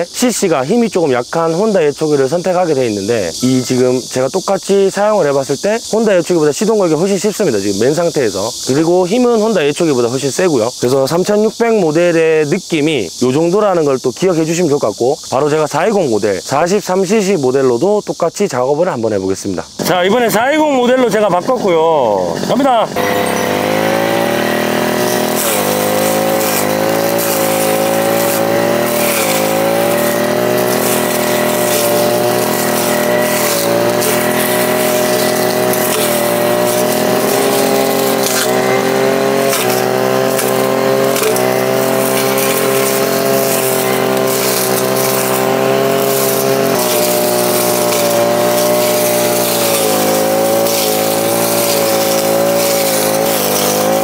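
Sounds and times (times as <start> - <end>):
brush cutter cutting grass: 0.0 - 17.4, 19.8 - 54.0.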